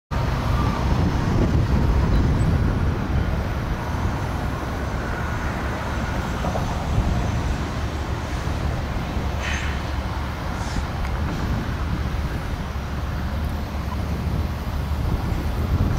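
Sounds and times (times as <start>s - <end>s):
diesel locomotives rumbling: 0.1s - 15.9s.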